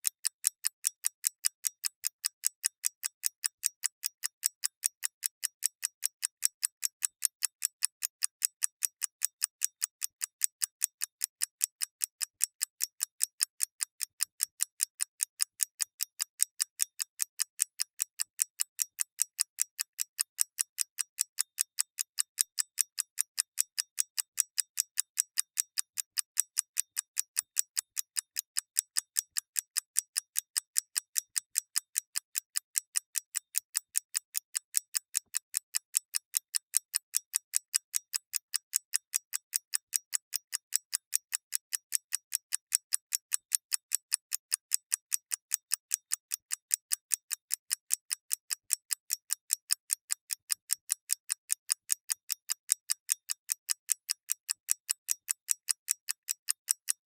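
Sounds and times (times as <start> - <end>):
watch ticking fast: 0.0 - 57.0.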